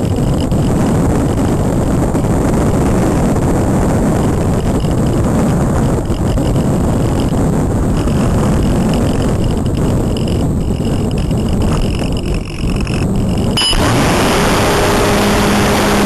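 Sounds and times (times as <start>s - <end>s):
faint high whine: 0.0s - 16.0s
wind rushing over microphone: 0.0s - 16.0s.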